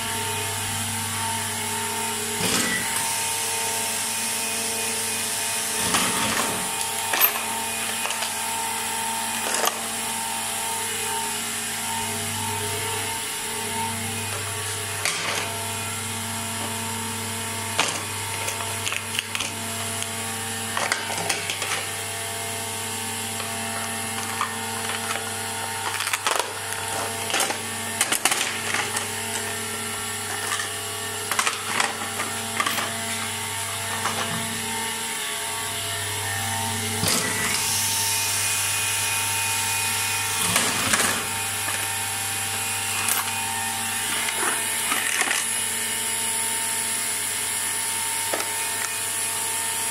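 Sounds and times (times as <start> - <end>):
electric motor hum: 0.0 - 49.9.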